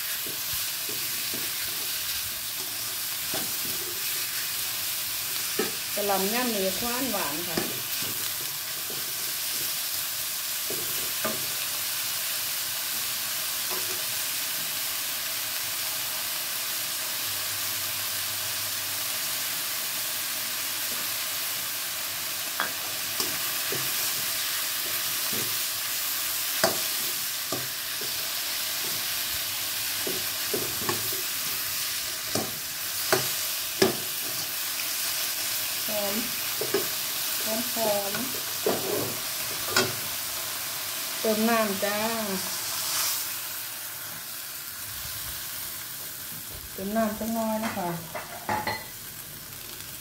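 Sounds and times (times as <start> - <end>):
meat sizzling in a wok: 0.0 - 50.0.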